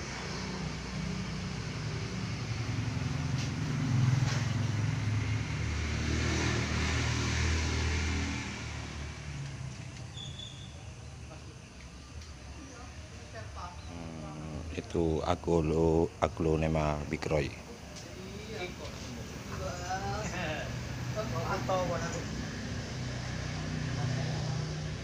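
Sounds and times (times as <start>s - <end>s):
vehicle engine passing by: 0.0s - 11.4s, 13.0s - 25.0s.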